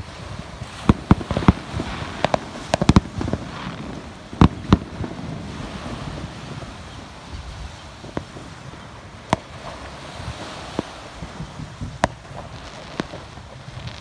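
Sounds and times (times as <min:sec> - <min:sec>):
background hiss: 0:00.0 - 0:14.0
fireworks bursting: 0:00.0 - 0:14.0.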